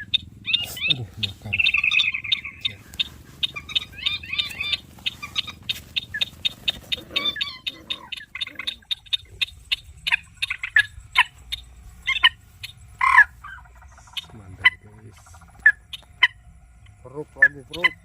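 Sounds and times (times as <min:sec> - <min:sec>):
sharp clicking animal calls: 0:00.0 - 0:18.0.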